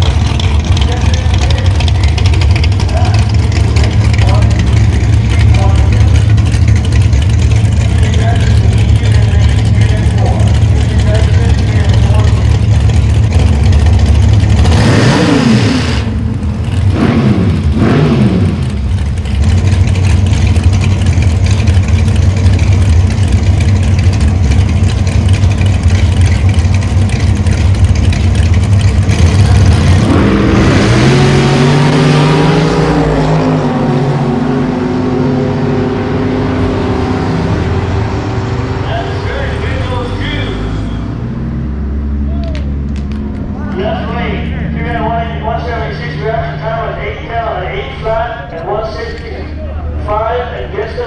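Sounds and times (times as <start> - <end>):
dragster engines accelerating: 0.0 - 51.0
dragster engines idling and revving: 0.0 - 51.0.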